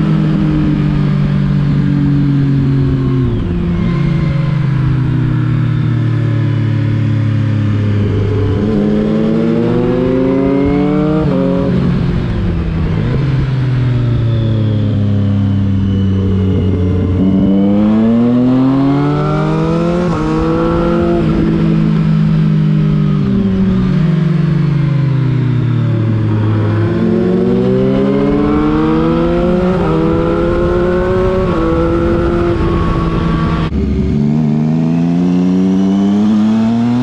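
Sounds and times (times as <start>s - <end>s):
motorcycle engine revving: 0.0s - 37.0s
motorcycle engine steady low note: 0.0s - 37.0s.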